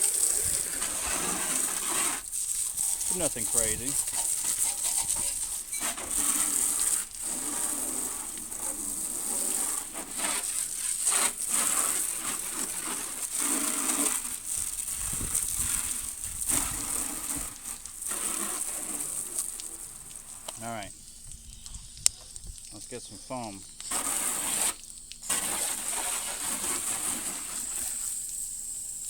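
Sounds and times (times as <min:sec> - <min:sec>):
water spraying on car body: 0:00.0 - 0:21.3, 0:22.0 - 0:29.0.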